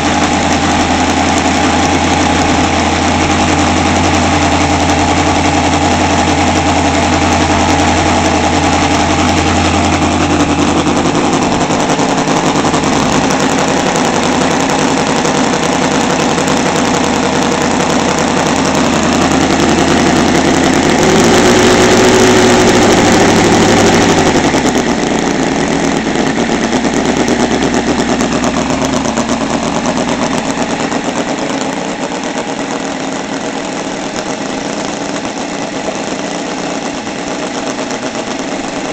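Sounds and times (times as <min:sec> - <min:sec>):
model radial engine running: 0:00.0 - 0:38.9.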